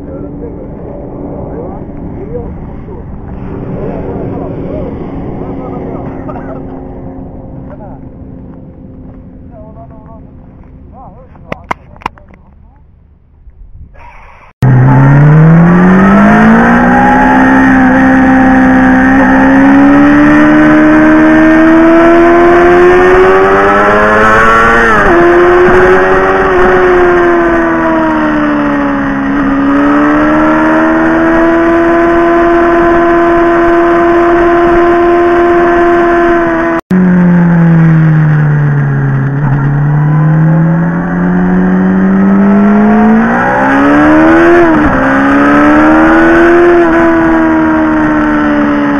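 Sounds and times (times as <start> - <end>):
motorcycle engine revving: 0.0 - 12.1, 14.6 - 48.9.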